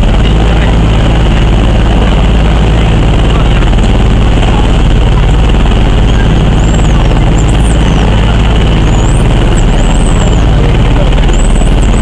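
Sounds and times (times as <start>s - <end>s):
boat engine running: 0.0s - 12.0s
wind rumbling on microphone: 0.0s - 12.0s.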